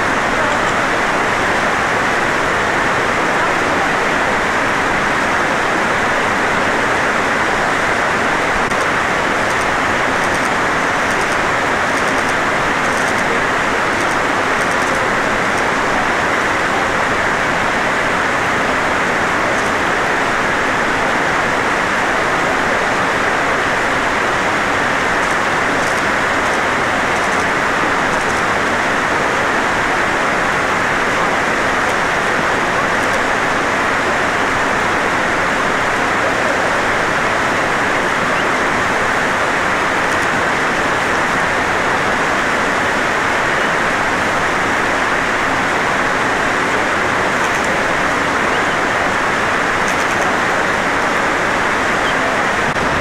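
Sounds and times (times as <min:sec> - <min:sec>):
flowing water rushing: 0:00.0 - 0:53.0.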